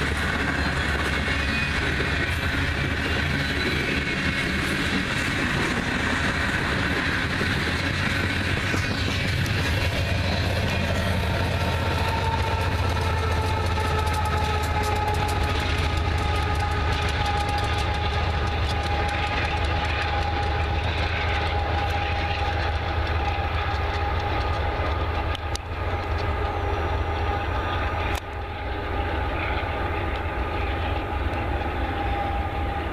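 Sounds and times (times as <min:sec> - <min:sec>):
diesel locomotive engine rumble: 0:00.0 - 0:32.9
rail noise: 0:00.0 - 0:32.9.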